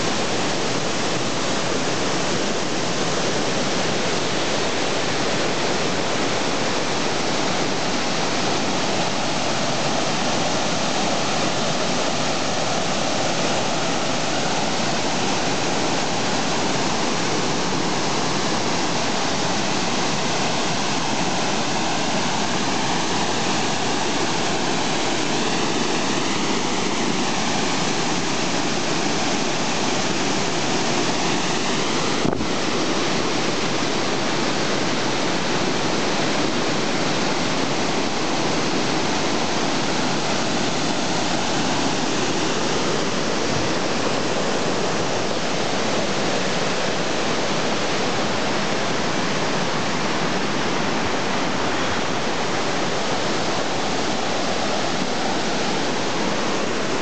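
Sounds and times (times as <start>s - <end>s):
water pouring over spillway: 0.0s - 57.0s.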